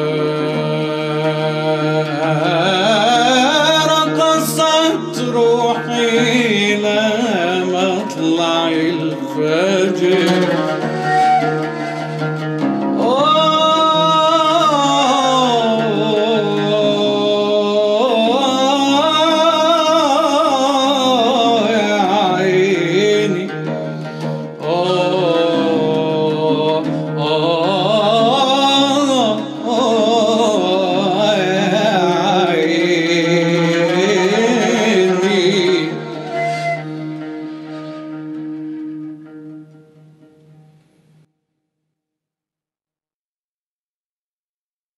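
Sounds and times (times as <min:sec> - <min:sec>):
man singing ornamented phrases: 0:00.0 - 0:11.5, 0:13.0 - 0:37.8.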